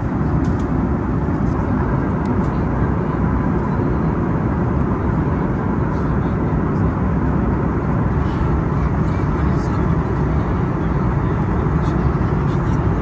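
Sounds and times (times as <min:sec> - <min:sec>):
airliner cabin engine noise: 0:00.0 - 0:13.0.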